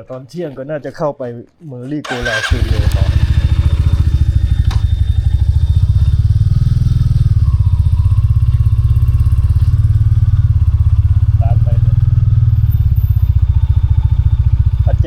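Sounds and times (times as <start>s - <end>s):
motorcycle engine running: 2.1s - 15.0s.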